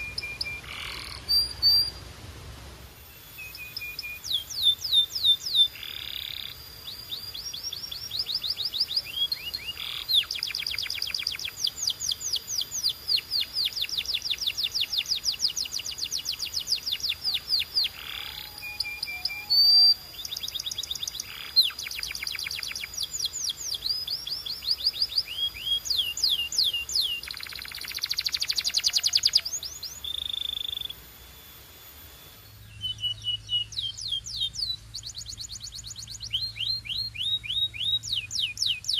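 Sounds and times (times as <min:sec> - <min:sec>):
canary singing trills: 0:00.0 - 0:02.0, 0:03.0 - 0:38.9.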